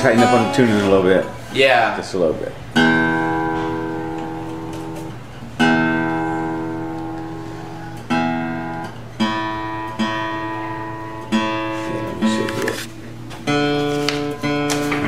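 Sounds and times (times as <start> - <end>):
acoustic guitar strummed: 0.0 - 1.5, 2.6 - 15.0
guitar tuning peg turning: 2.8 - 15.0.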